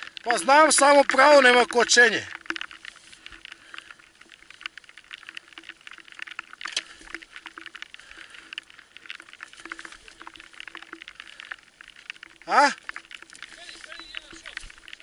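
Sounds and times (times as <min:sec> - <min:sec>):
tyres crackling over stones: 0:00.0 - 0:15.0.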